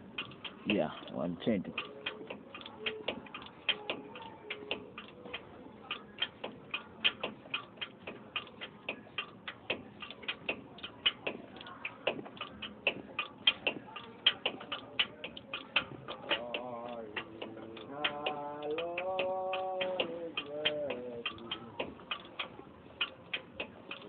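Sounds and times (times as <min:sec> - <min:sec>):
hand ratchet clicking: 0:00.0 - 0:24.0.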